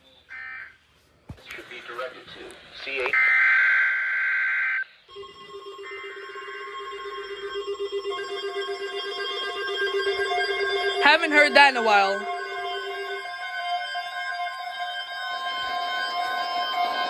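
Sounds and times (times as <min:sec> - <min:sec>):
electronic alarm tone with flutter: 0:03.2 - 0:17.0.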